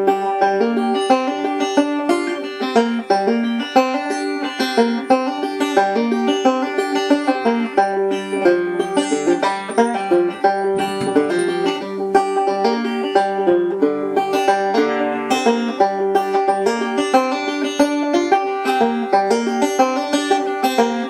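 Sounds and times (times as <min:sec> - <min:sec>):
banjo plucked tune: 0:00.0 - 0:21.0.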